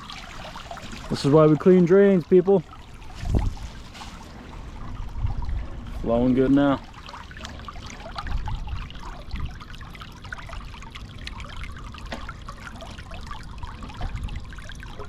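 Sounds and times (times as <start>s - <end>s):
water pouring from drain pipe: 0.0s - 15.0s.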